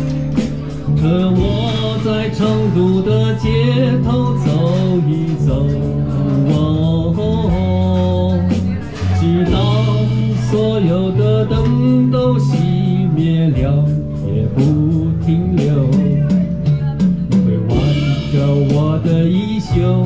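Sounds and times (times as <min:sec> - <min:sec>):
live band playing a ballad: 0:00.0 - 0:20.0
person singing: 0:00.0 - 0:20.0.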